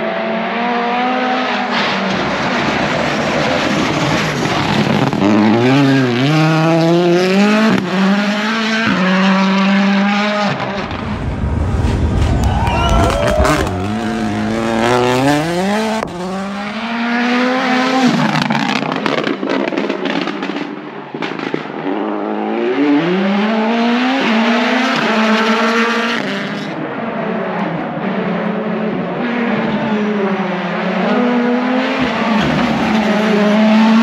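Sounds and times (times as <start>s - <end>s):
rally car engine accelerating: 0.0s - 34.0s.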